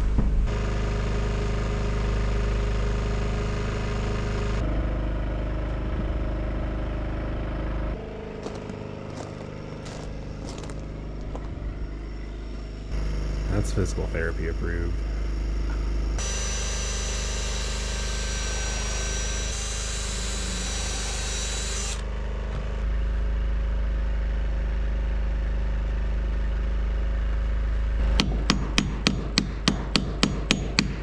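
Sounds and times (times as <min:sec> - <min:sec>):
mechanical motor hum: 0:00.0 - 0:31.0.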